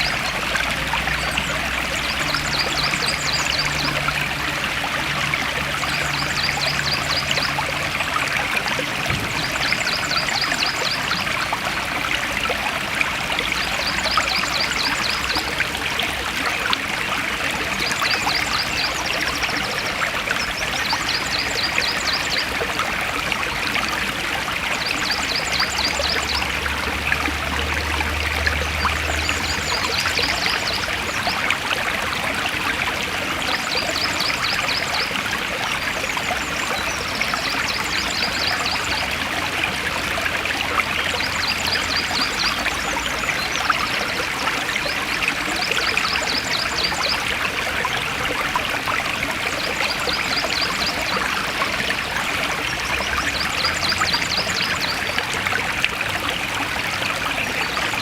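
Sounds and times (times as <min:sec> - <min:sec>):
forest stream splashing: 0:00.0 - 0:58.0.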